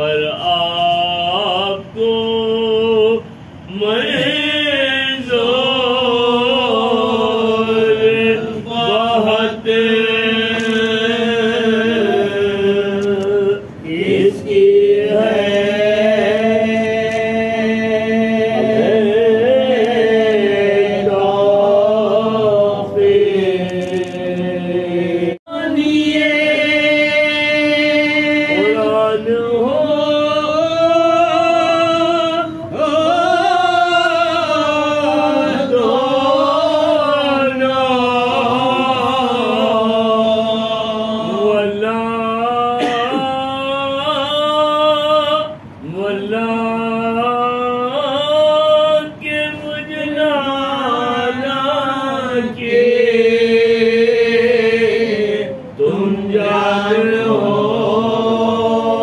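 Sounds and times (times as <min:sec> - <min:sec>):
men chanting in unison: 0:00.0 - 0:59.0.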